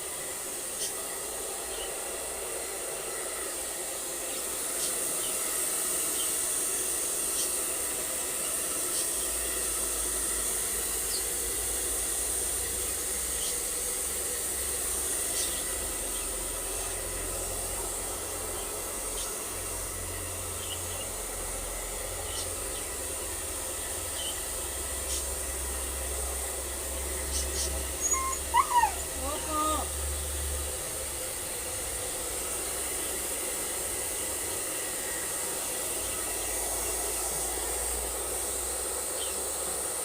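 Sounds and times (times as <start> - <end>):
blow dryer hiss: 0.0 - 40.0.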